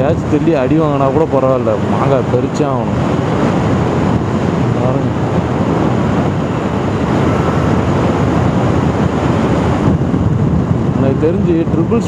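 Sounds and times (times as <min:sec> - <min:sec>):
wind rushing: 0:00.0 - 0:12.0
motorcycle engine cruising: 0:00.9 - 0:11.3.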